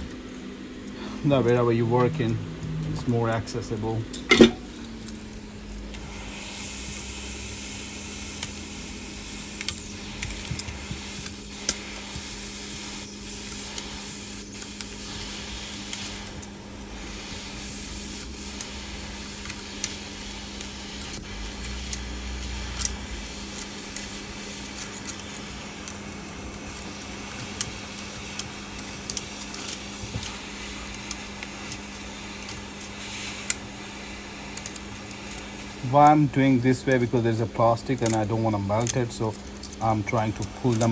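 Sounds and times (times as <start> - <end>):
heat gun blowing: 0.0 - 40.9.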